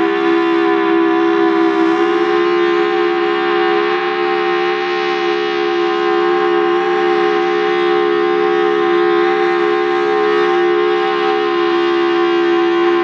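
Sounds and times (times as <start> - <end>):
siren steady tone: 0.0 - 13.0.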